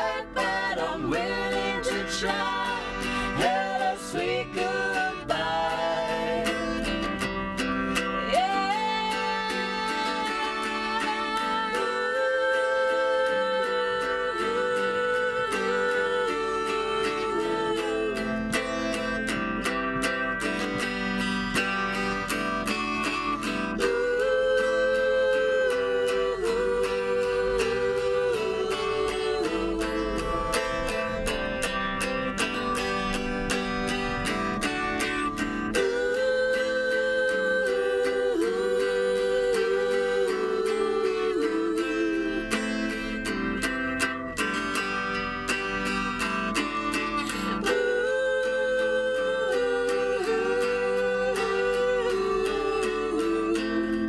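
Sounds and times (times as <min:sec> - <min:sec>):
strummed acoustic guitar: 0:00.0 - 0:54.0.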